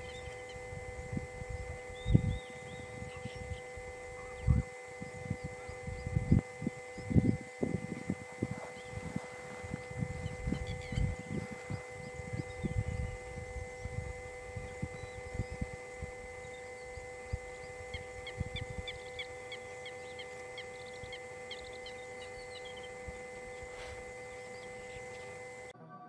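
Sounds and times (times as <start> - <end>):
bird chirping: 0.0 - 25.7
steady tonal hum: 0.0 - 26.0.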